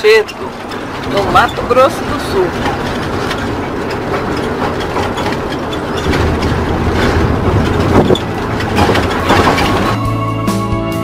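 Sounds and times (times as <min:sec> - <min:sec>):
body rattles and knocks: 0:00.0 - 0:10.0
engine and tyre noise: 0:00.0 - 0:11.0.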